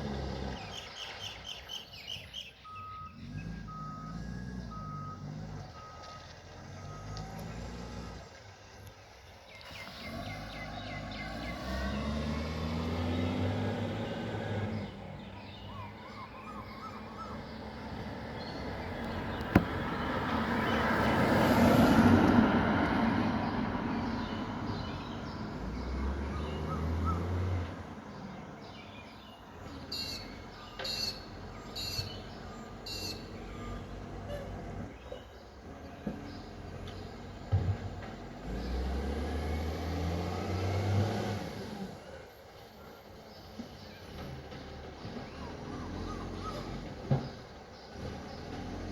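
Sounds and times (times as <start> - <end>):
birds chirping: 0.1 - 22.0, 22.6 - 40.7, 42.0 - 48.9
garbage truck driving past: 2.7 - 8.4, 9.7 - 48.9.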